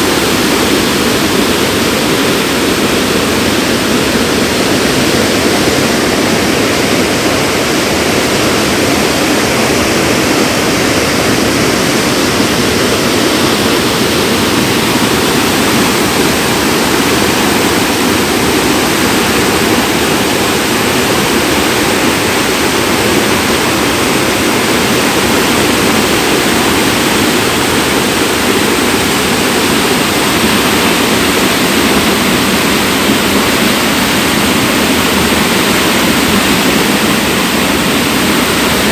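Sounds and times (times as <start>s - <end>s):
river water rushing loudly: 0.0s - 38.9s.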